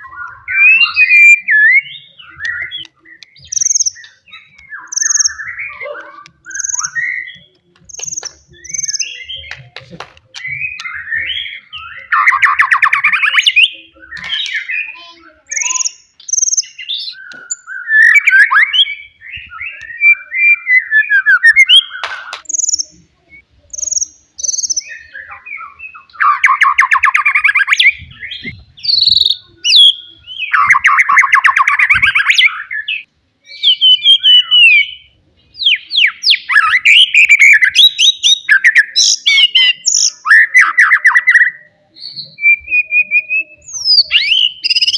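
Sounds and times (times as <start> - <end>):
bird singing: 0.0 - 44.9.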